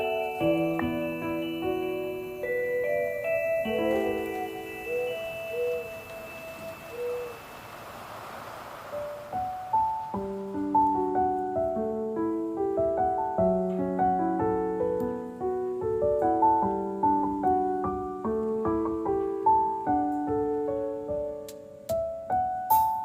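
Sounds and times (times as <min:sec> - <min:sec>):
gentle solo piano melody: 0:00.0 - 0:07.6, 0:09.0 - 0:23.0.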